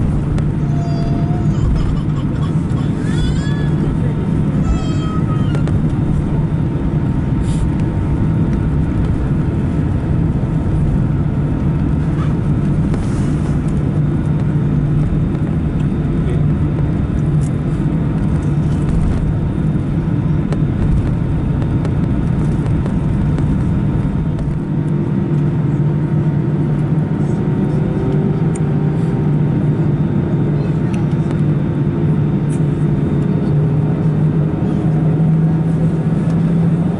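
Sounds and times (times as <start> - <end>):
aircraft cabin rumble: 0.0 - 36.9.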